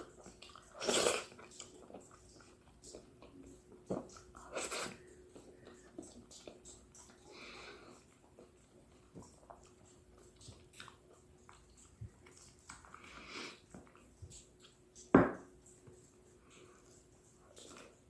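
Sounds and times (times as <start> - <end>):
chewing and biting fruit: 0.0 - 16.2.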